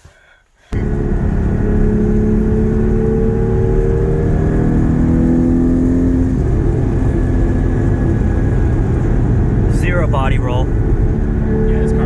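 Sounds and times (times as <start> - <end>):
car engine under load: 0.7 - 12.0
low road rumble: 0.7 - 12.0.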